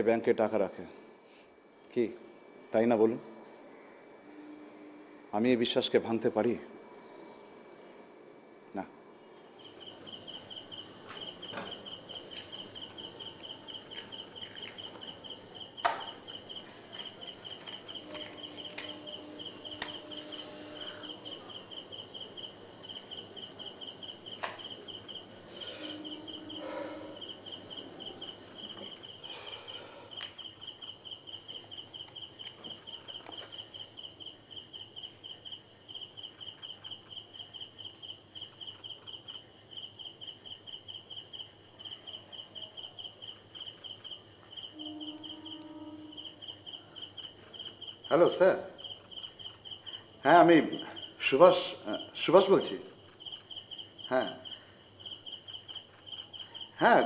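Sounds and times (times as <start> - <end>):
low continuous cricket chirping: 0.0 - 57.0
high-pitched cricket chirping: 8.8 - 57.0.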